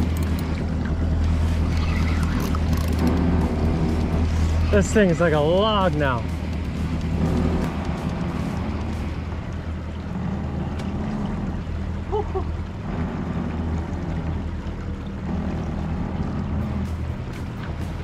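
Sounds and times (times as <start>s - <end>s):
outboard motors rumbling: 0.0s - 18.0s
water sloshing around hull: 0.0s - 18.0s.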